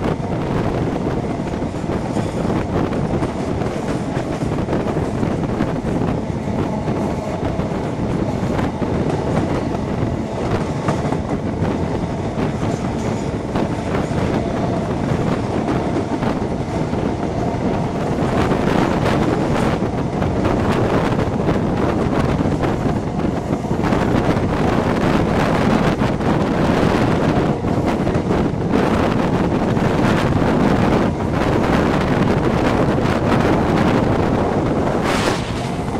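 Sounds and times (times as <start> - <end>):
train wheels rumbling on rails: 0.0 - 35.9
wind rushing over microphone: 0.0 - 35.9.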